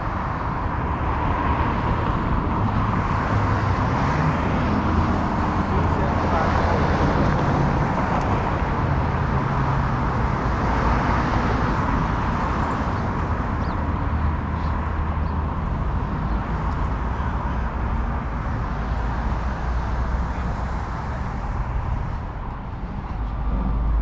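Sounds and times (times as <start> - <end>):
street traffic: 0.0 - 24.0
wind rumble on microphone: 0.0 - 24.0.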